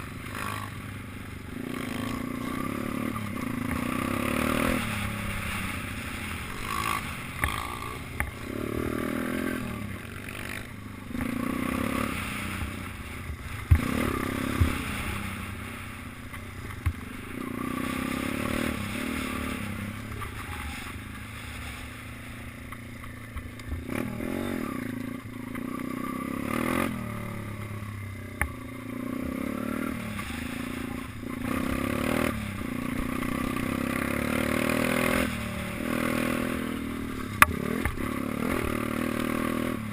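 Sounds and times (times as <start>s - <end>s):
minibike engine revving: 0.0s - 39.9s.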